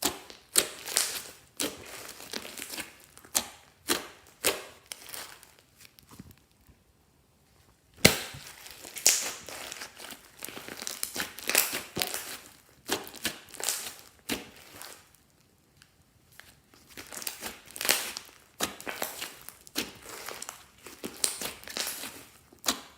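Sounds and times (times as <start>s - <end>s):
slime crackling and popping: 0.0s - 6.7s, 8.0s - 22.9s.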